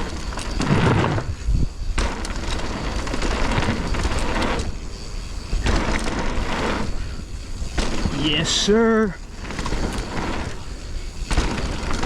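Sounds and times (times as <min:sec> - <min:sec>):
bike tyres rolling over dirt: 0:00.0 - 0:12.0
wind rumbling on microphone: 0:00.0 - 0:12.0.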